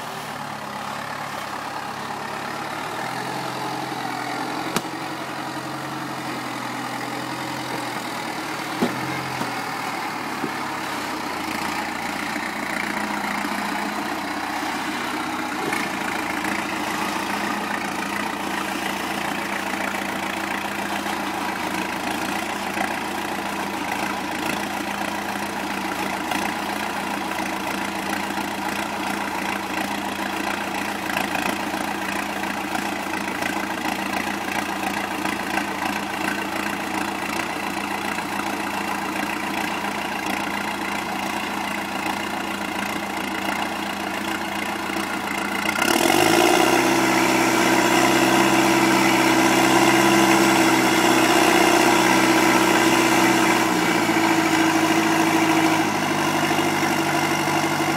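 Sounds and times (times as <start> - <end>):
diesel engine running at low revs: 0.0 - 57.9.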